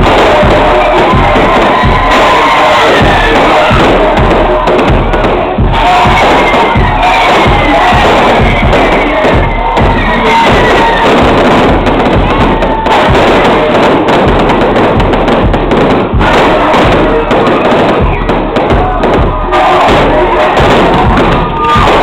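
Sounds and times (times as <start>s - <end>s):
fireworks bangs: 0.0s - 22.0s
music: 0.0s - 22.0s
voices: 0.0s - 22.0s.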